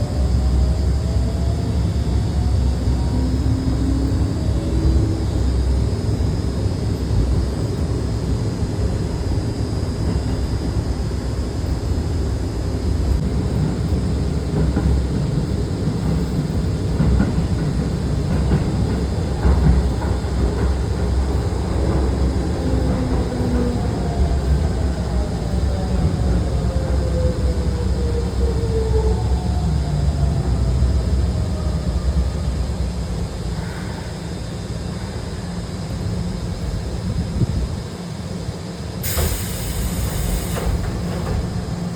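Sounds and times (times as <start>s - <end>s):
electric train rumbling: 0.0s - 41.9s.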